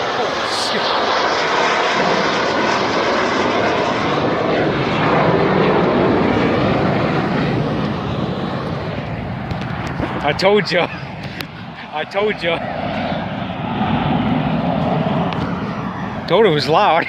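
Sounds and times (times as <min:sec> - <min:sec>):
fighter jet passing overhead: 0:00.0 - 0:17.0.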